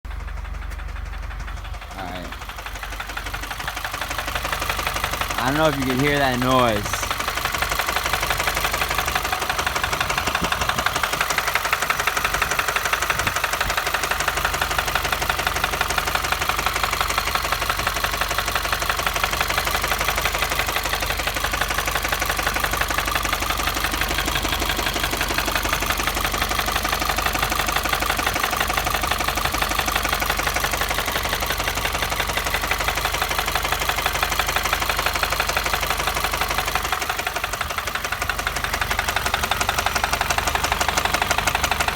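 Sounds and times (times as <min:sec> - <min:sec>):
car engine idling with knocking: 0:00.1 - 0:41.9.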